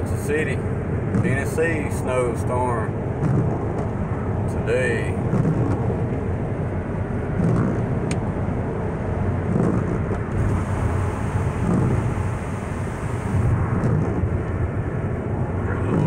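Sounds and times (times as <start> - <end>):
car driving on wet road: 0.0 - 16.0.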